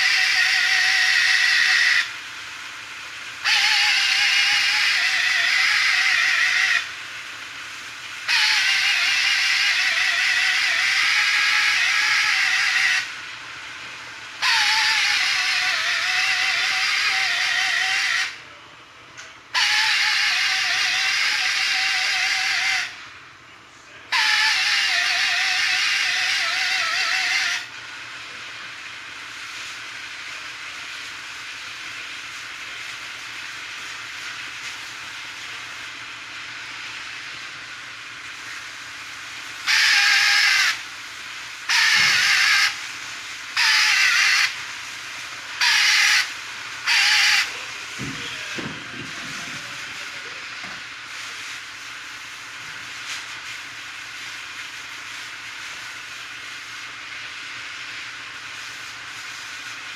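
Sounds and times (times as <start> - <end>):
loud hissing bursts: 0.0 - 18.5, 19.5 - 23.3, 23.9 - 59.9.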